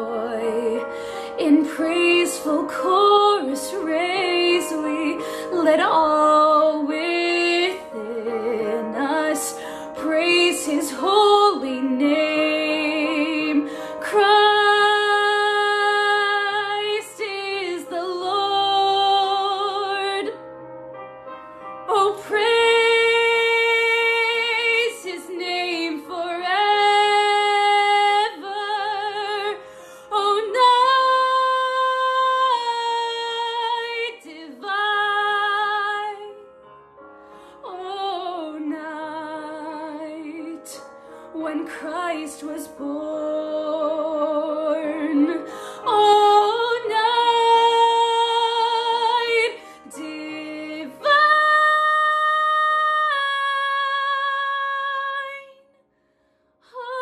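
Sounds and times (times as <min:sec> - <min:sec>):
woman singing: 0:00.0 - 0:20.4, 0:21.8 - 0:36.4, 0:37.6 - 0:55.8, 0:56.6 - 0:57.0.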